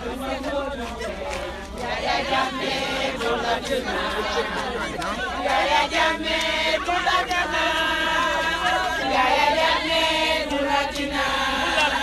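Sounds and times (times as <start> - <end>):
crowd singing in unison: 0.0 - 12.0.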